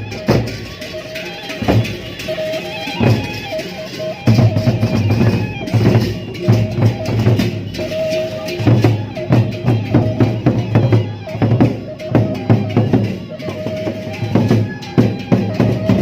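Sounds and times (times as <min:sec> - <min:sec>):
flute holding long notes: 0:00.0 - 0:16.0
large drums beating: 0:00.0 - 0:16.0.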